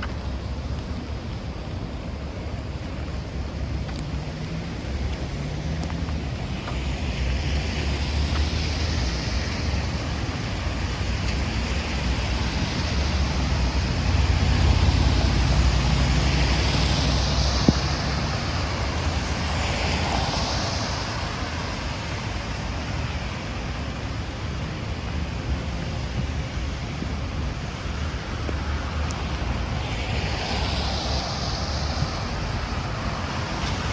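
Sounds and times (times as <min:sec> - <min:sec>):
rain hissing: 0:00.0 - 0:33.9
vehicles swishing on wet road: 0:00.0 - 0:33.9
wind on microphone: 0:00.0 - 0:33.9.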